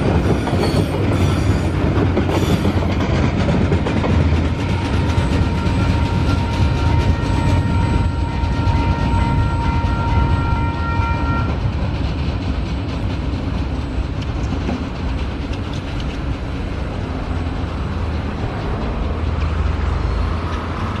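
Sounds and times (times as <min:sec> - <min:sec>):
train wagons rumbling: 0:00.0 - 0:21.0.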